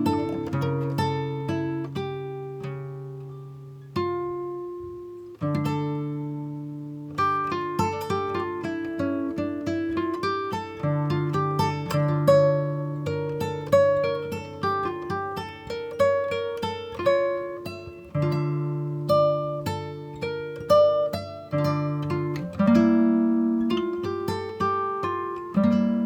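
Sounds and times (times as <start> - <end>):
plucked acoustic guitar music: 0.0 - 26.0.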